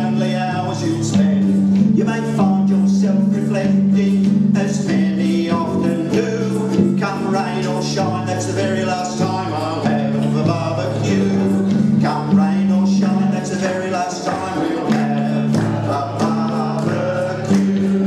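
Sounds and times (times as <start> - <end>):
man singing: 0.0 - 18.0
ukulele strumming: 0.0 - 18.0.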